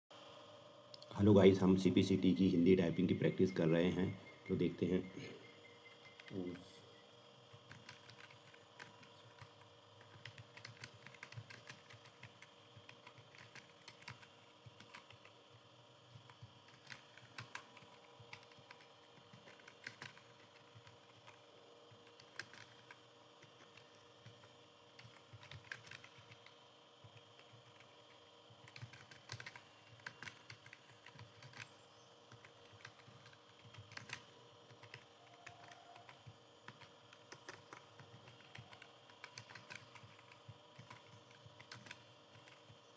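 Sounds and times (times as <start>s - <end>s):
keyboard typing: 1.9s - 42.9s.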